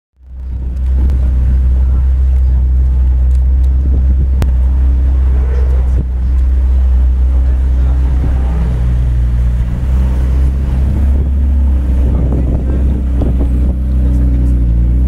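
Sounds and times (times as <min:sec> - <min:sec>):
car engine idling: 0:00.2 - 0:15.0.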